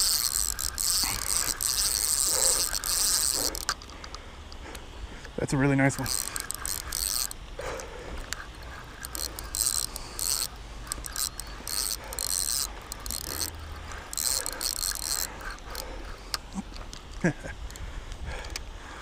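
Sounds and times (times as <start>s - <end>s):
fishing reel whirring and clicking: 0.0s - 19.0s.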